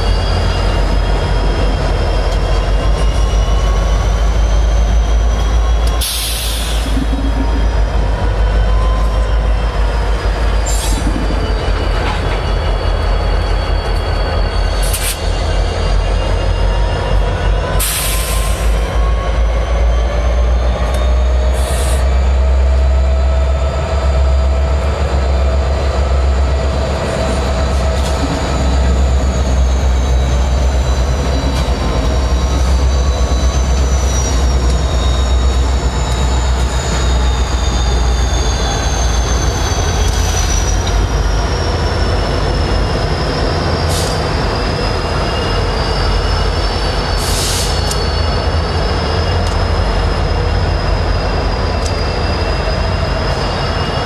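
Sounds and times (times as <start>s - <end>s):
train wheels squealing on rails: 0.0s - 54.0s.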